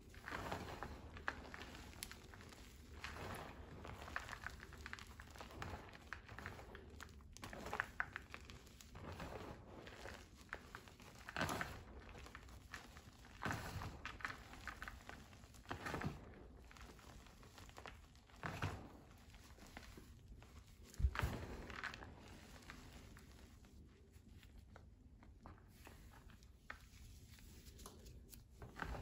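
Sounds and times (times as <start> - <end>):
hands crunching chalk: 0.0 - 24.8, 25.5 - 29.0.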